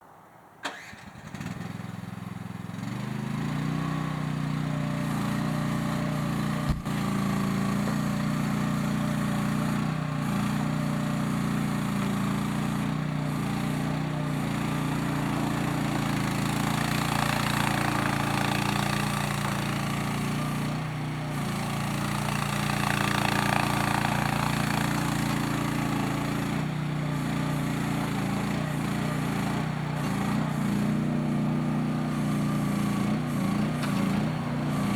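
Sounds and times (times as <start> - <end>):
mini excavator engine running: 0.6 - 34.9.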